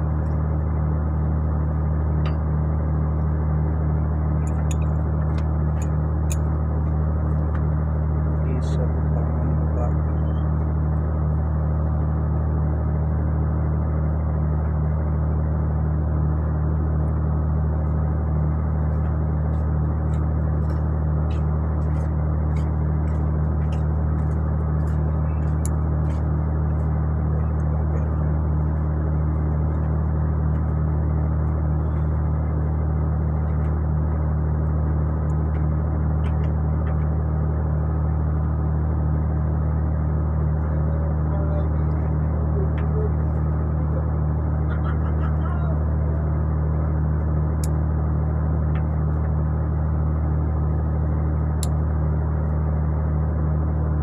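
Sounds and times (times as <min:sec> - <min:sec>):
ship engines humming: 0:00.0 - 0:54.0.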